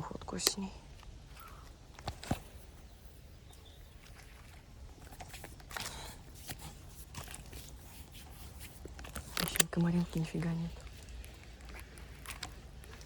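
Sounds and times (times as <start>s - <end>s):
handling rustling and clicks: 0.1s - 13.0s.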